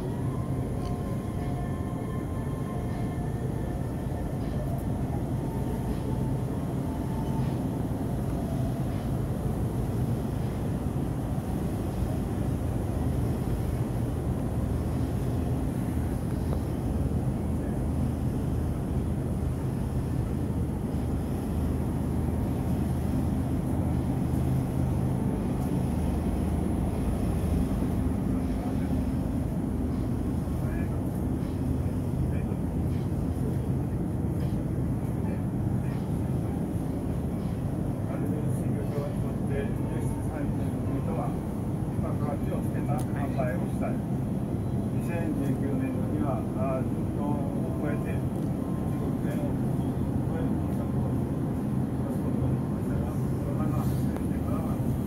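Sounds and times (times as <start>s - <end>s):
faint steady tones: 0.0s - 55.0s
refrigerated display cases humming: 0.0s - 55.0s.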